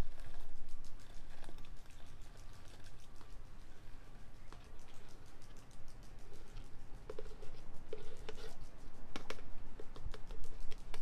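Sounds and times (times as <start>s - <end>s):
powder pouring rustle and ticks: 0.0s - 11.0s.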